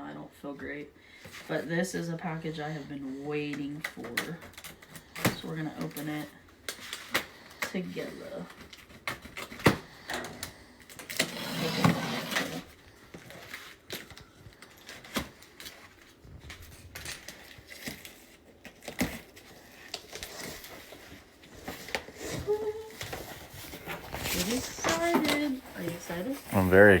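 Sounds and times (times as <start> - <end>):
packaging rustling: 3.8 - 27.0.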